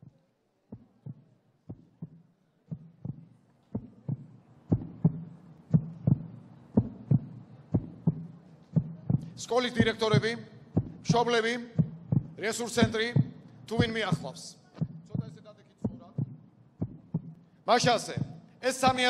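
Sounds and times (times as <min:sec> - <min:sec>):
heartbeat low thumps: 0:00.0 - 0:19.0.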